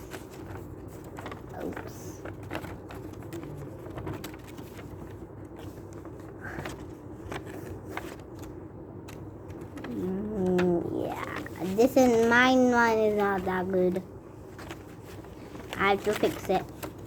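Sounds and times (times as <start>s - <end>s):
faint steady hum: 0.0s - 17.0s
paper rustling: 0.0s - 17.0s.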